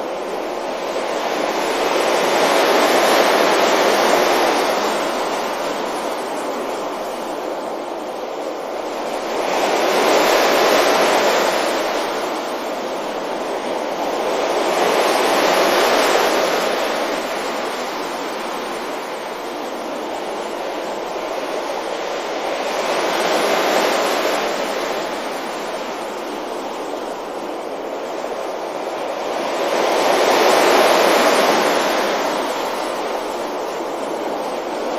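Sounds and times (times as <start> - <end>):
waves breaking on a beach: 0.0 - 34.9.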